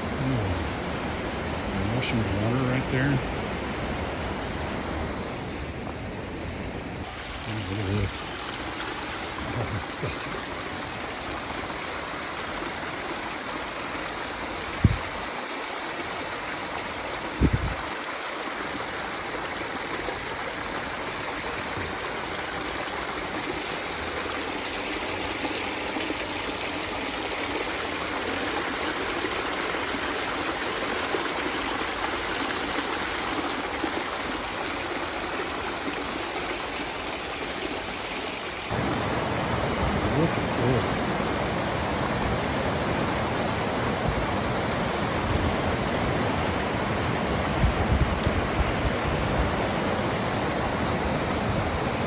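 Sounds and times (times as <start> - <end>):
creek rushing over rocks: 0.0 - 6.2, 7.0 - 52.0.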